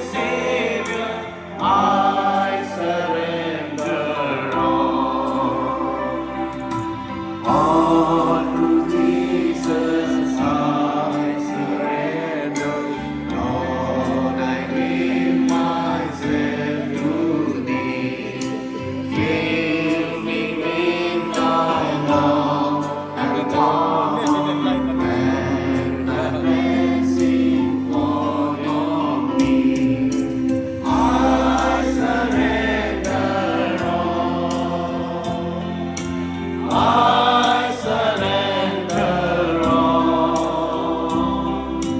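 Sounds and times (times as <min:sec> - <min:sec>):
choir singing a hymn: 0:00.0 - 0:41.9
instrumental accompaniment: 0:00.0 - 0:41.9.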